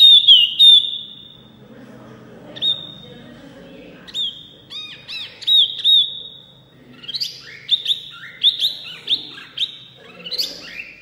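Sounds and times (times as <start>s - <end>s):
bird singing whistled notes: 0.0s - 1.5s, 2.6s - 3.2s, 4.1s - 11.0s.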